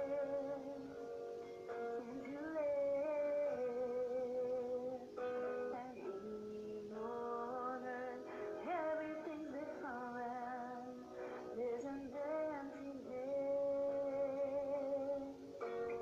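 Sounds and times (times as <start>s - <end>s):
soft backing track: 0.0s - 16.0s
woman singing with vibrato: 2.0s - 15.4s.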